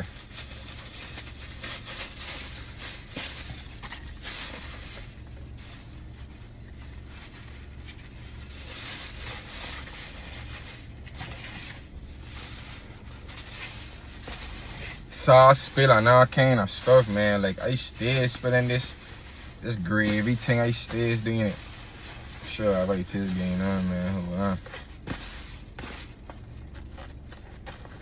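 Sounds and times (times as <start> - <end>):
food container and bag rustling: 0.0 - 28.0
low steady hum: 0.0 - 28.0.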